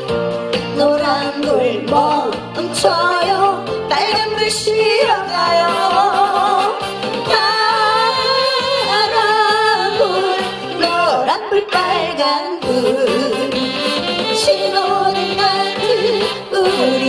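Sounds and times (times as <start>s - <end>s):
instrumental accompaniment: 0.0s - 17.0s
woman singing into microphone: 0.6s - 17.0s.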